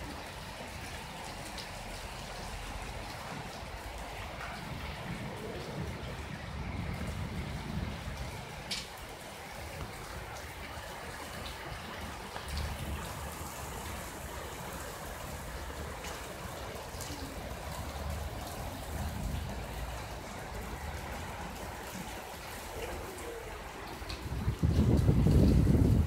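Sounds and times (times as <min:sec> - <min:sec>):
rain hissing: 0:00.0 - 0:26.0
raindrop ticks: 0:00.7 - 0:26.0.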